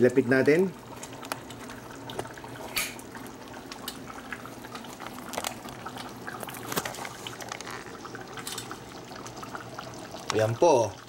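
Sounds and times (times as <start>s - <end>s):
soup bubbling in a pot: 0.0s - 11.0s
bubbles popping: 0.7s - 11.0s.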